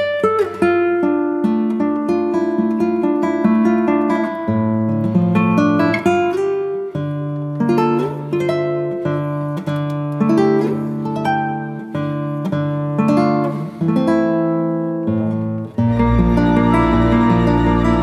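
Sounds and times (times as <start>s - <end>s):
plucked string music: 0.0s - 18.0s.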